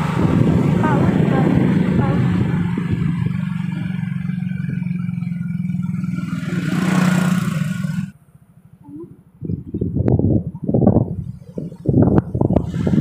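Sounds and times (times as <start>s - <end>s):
wind buffeting microphone: 0.0s - 7.5s, 9.2s - 13.0s
vehicle engine humming: 0.0s - 13.0s.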